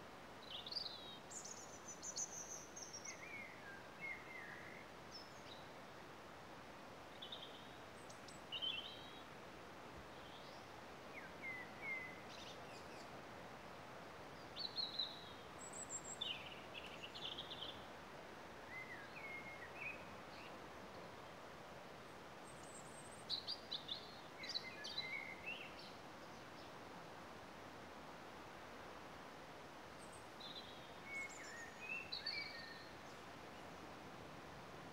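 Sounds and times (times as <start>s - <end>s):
steady hiss: 0.0s - 34.9s.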